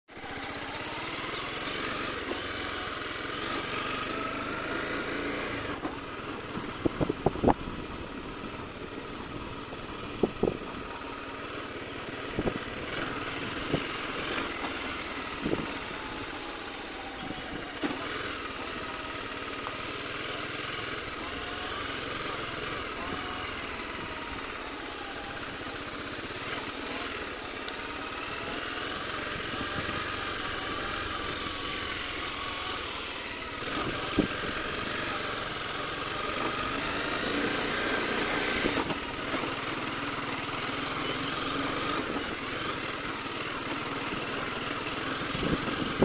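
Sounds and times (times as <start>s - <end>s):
motorcycle engine running: 0.1s - 46.0s.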